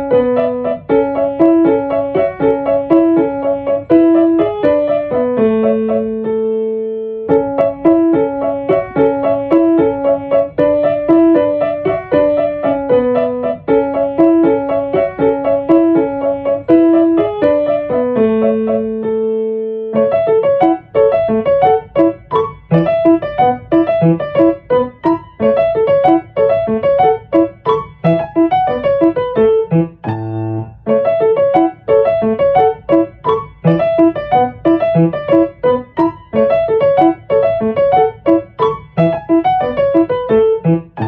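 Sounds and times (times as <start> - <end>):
solo piano music: 0.0 - 41.0.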